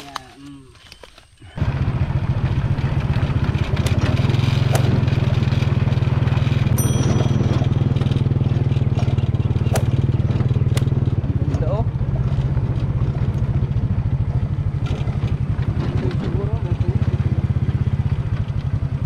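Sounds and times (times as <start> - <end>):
small motorcycle engine running: 1.4 - 19.0.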